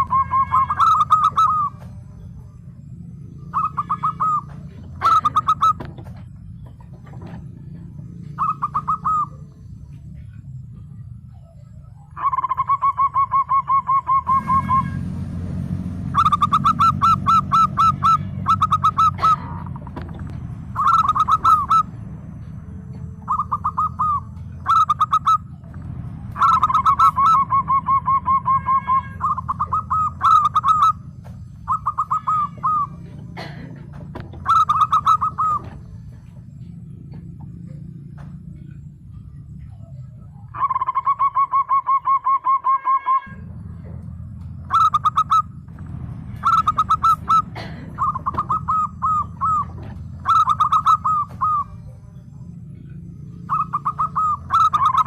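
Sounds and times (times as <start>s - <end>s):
dove cooing: 0.0s - 15.0s, 16.1s - 55.0s
steady low hum: 0.0s - 42.4s, 43.2s - 55.0s.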